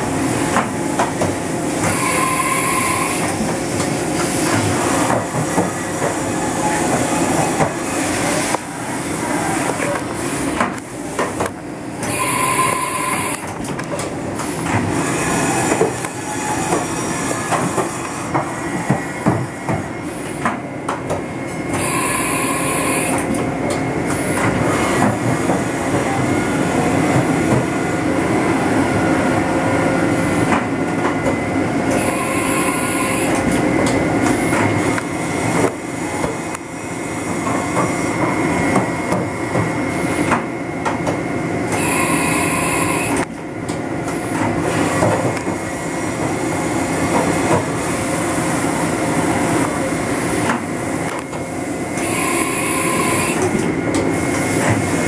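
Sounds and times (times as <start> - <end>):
machine running steadily: 0.0 - 55.0.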